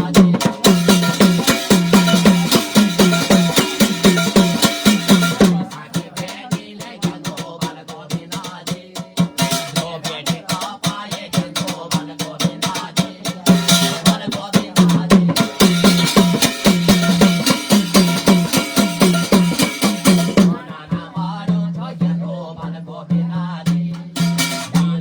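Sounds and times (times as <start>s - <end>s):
quick drum strokes: 0.0s - 25.0s.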